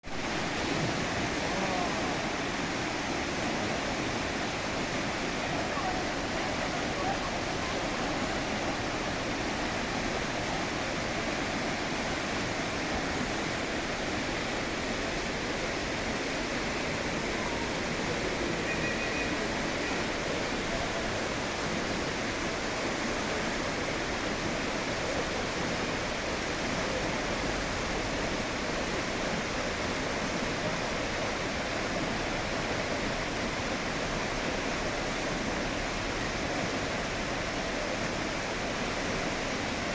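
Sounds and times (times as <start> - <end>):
waterfall and rushing stream: 0.0 - 39.9.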